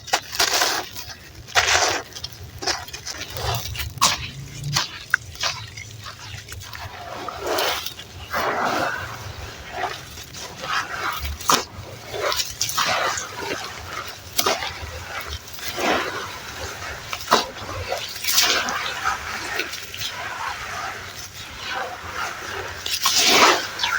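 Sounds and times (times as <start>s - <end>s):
wet crunches and squelches: 0.0s - 23.9s.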